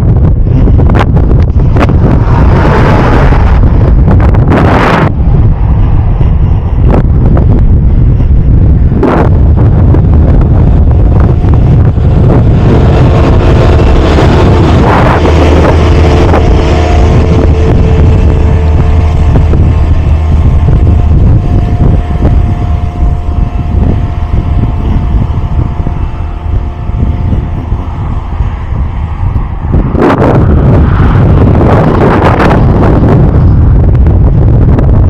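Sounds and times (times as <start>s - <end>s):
vehicle engine humming: 0.0s - 35.0s
wind buffeting microphone: 0.0s - 35.0s.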